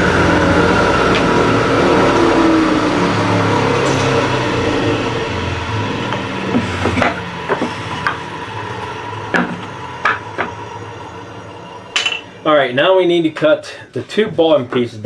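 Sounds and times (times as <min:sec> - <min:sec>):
table saw winding down: 0:00.0 - 0:13.2.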